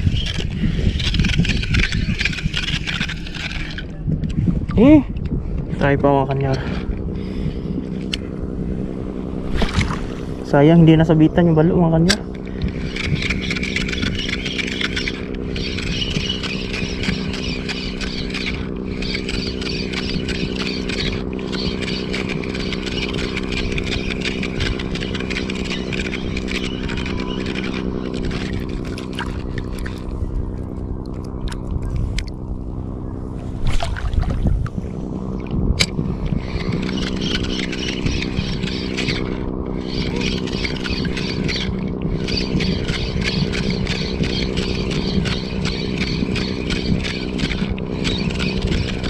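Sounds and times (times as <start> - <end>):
steady motor drone: 0.0 - 49.0.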